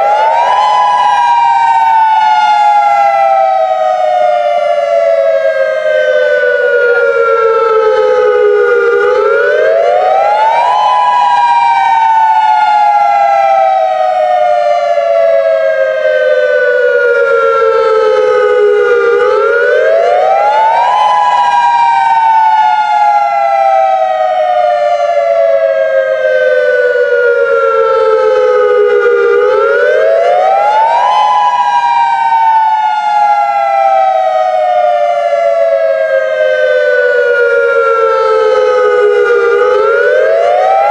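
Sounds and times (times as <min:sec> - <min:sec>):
electronic warning siren wailing: 0:00.0 - 0:40.9.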